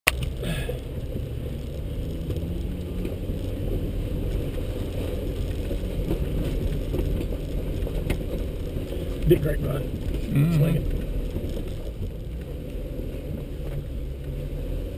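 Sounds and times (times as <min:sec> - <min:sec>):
body and suspension rattling: 0:00.1 - 0:14.9
low engine sound: 0:00.1 - 0:14.9.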